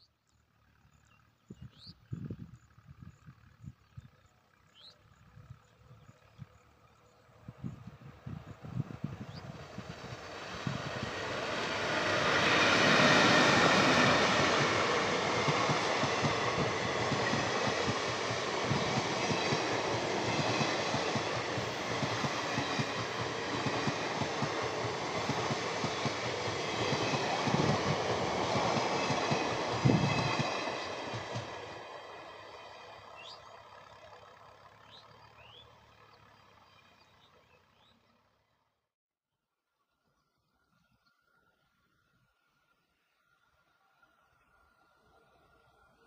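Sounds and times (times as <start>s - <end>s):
electric locomotive passing: 0.3s - 38.7s, 41.4s - 46.0s
train coaches rolling past: 0.4s - 38.6s.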